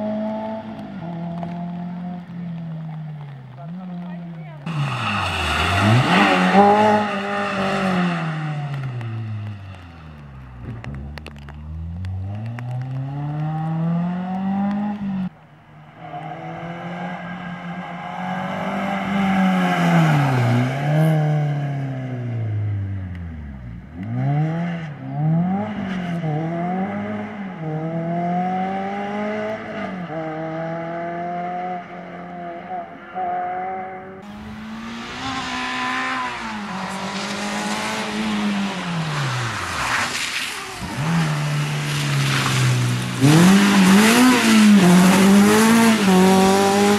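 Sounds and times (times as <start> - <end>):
rally car engine revving: 0.0 - 15.3, 15.9 - 46.9.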